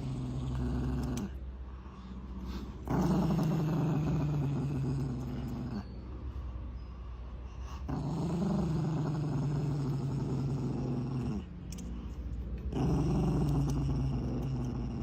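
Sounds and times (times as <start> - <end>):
small dog growling: 0.0 - 1.4, 2.0 - 6.0, 7.7 - 15.0.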